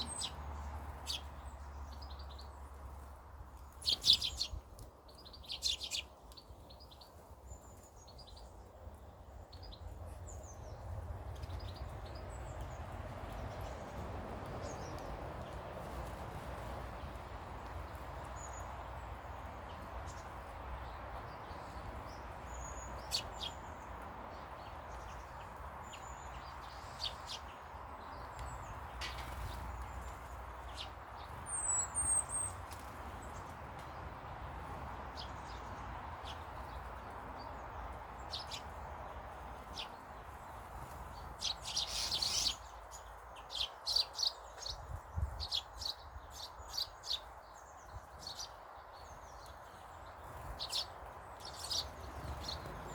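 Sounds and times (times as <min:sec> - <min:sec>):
birds chirping: 0:00.0 - 0:16.1, 0:16.9 - 0:52.9.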